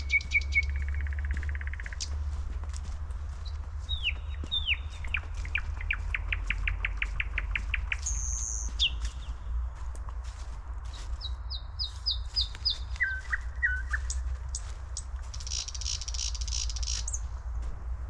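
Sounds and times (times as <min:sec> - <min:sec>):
forest birds calling: 0:00.0 - 0:17.5
steady low rumble: 0:00.0 - 0:18.0.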